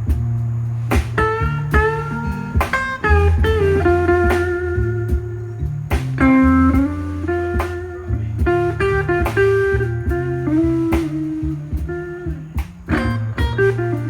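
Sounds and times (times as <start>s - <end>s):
drum hits: 0.0s - 14.0s
walking bass line: 0.0s - 14.0s
lead guitar solo: 1.1s - 14.0s.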